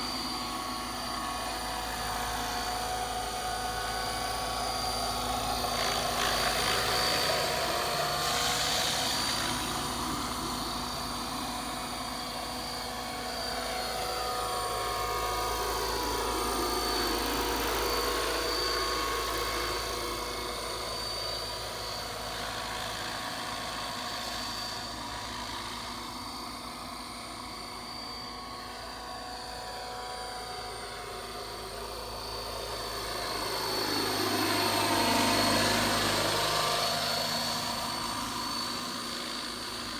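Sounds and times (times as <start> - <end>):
model helicopter whine and rotors: 0.0 - 39.9.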